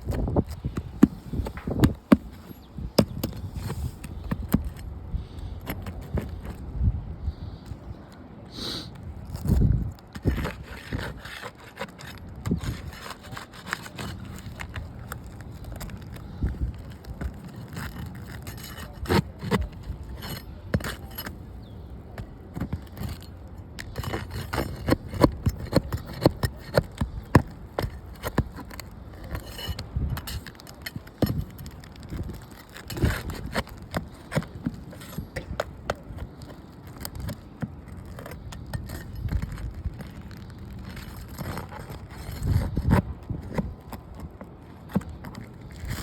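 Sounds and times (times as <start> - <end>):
hard objects clicking and scraping: 0.0 - 6.7, 8.9 - 46.0.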